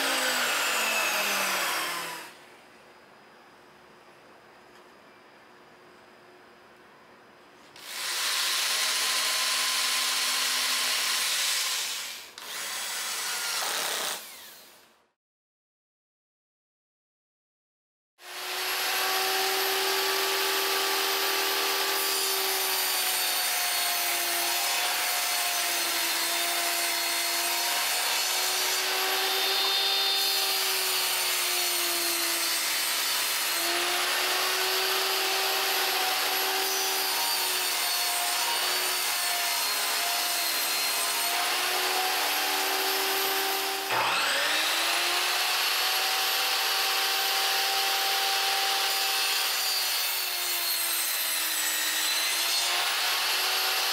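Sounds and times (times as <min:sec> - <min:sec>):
table saw cutting wood: 0:00.0 - 0:02.4, 0:07.8 - 0:14.8, 0:18.2 - 0:53.9.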